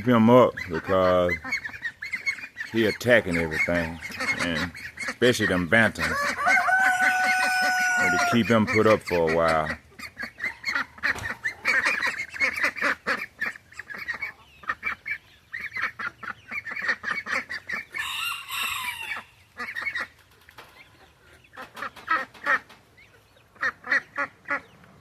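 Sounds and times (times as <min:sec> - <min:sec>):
chickens and ducks calling: 0:00.0 - 0:25.0.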